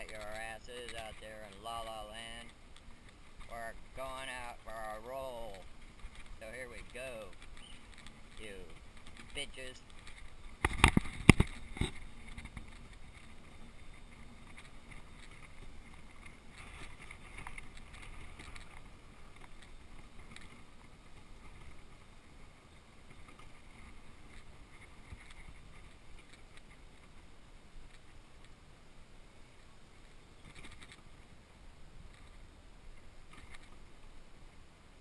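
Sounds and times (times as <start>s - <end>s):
wheelchair wheels rumbling on asphalt: 0.0s - 35.0s.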